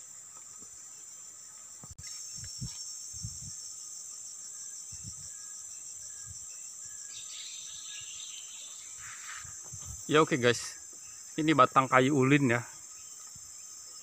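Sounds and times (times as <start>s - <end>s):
insects chirping chorus: 0.0s - 14.0s.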